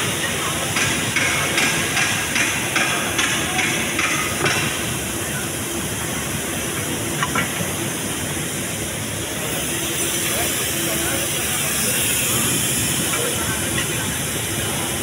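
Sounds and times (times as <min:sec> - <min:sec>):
hissing workshop noise: 0:00.0 - 0:15.0.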